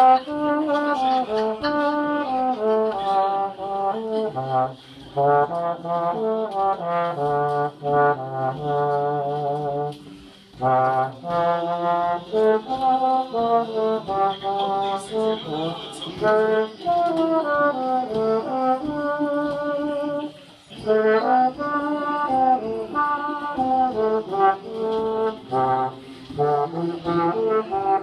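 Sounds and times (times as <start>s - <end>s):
tenor horn playing folk tune: 0.0s - 28.0s.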